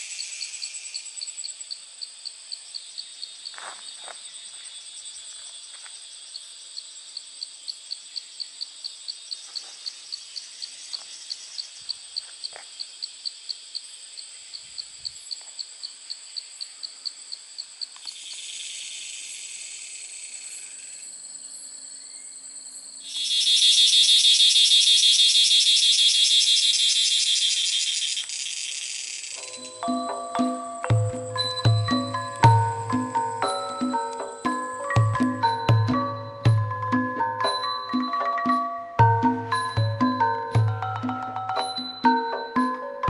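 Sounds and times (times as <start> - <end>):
steady insect buzz: 0.0 - 35.7
shrill insect chorus: 0.0 - 36.4
insect chirping: 0.0 - 42.9.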